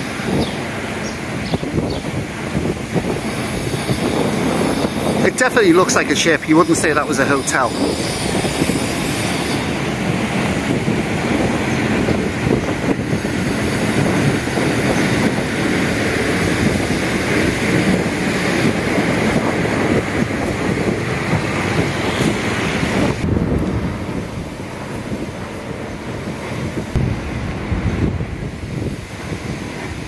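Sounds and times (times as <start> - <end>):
street ambience: 0.0 - 30.0
wind buffeting microphone: 0.0 - 30.0.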